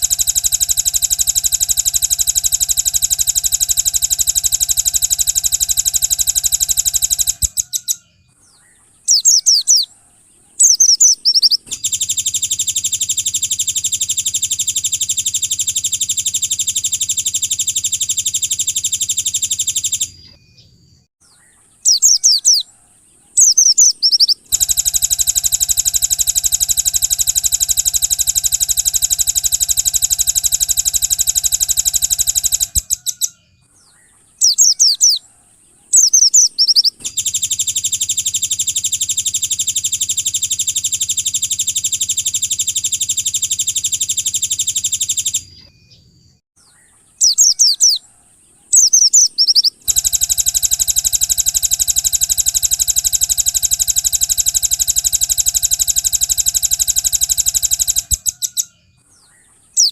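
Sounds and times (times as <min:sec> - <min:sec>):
songbird fast trills: 0:00.0 - 0:20.7, 0:21.3 - 0:59.9
songbird chirping: 0:00.0 - 0:59.9.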